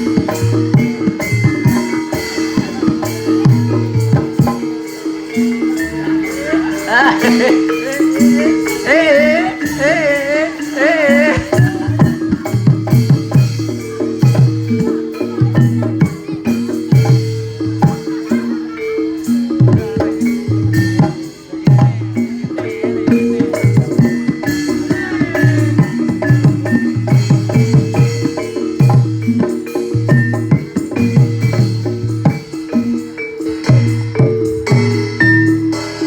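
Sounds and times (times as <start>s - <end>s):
drums beating steady rhythm: 0.0s - 36.0s
struck metal-keyed notes: 0.0s - 36.0s.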